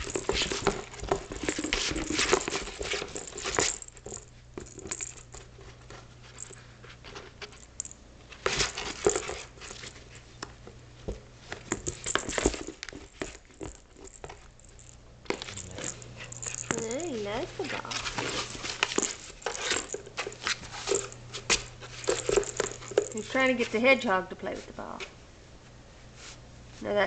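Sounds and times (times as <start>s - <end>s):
puppy rustling in cardboard box: 0.0s - 7.6s, 8.3s - 15.6s, 16.2s - 23.9s.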